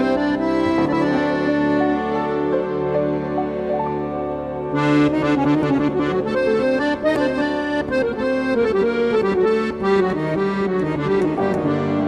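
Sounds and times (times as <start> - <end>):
accordion melody: 0.0 - 12.0.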